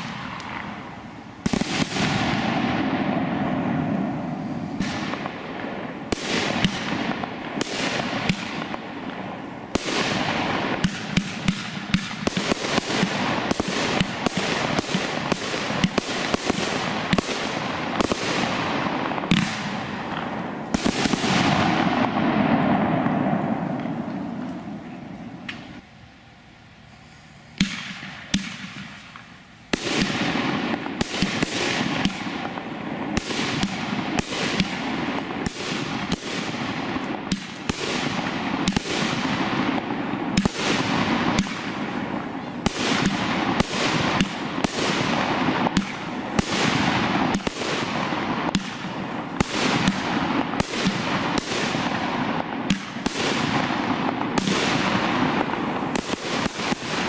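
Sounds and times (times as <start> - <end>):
fireworks shots: 0.0 - 25.9, 27.5 - 57.0
fireworks hissing: 0.0 - 57.0.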